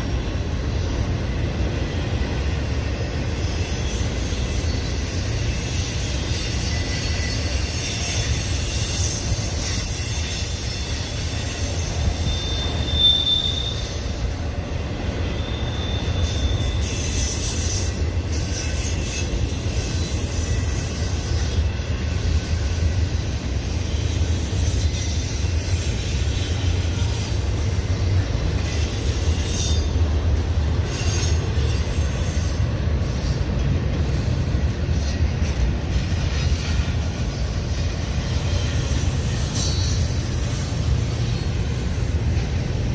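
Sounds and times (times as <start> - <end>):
freight train rumbling past: 0.0 - 42.9
wheel squeals: 3.2 - 14.4, 15.1 - 42.7.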